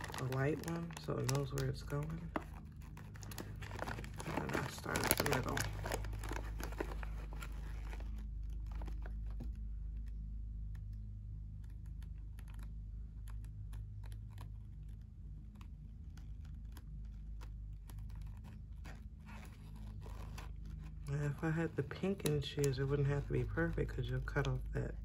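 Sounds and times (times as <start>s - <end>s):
low hum: 0.0s - 25.0s
photo paper being folded: 0.0s - 25.0s.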